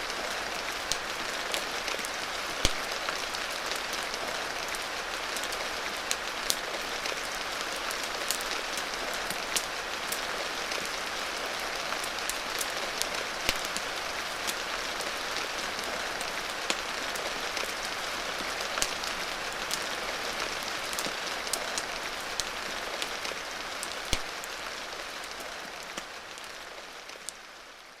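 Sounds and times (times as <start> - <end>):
rain hiss: 0.0 - 28.0
fireplace crackling and popping: 0.2 - 27.4.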